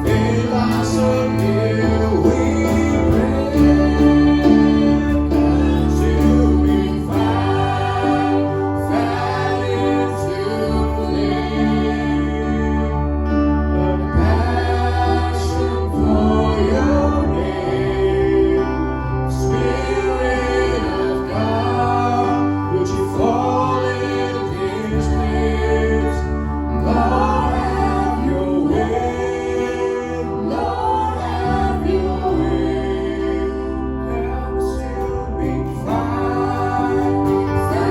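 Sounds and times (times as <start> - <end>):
low bass: 0.0 - 37.9
person singing: 0.0 - 37.9
sustained keyboard chords: 0.0 - 37.9.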